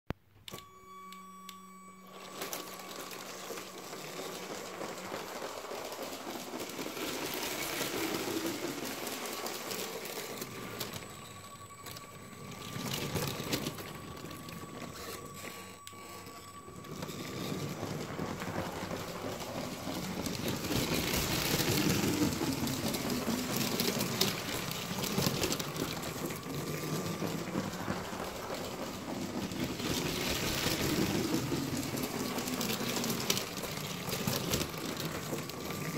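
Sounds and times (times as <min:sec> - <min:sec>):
plastic wheels clicking on track: 0:02.0 - 0:35.9
toy train motor whirring: 0:02.0 - 0:35.9.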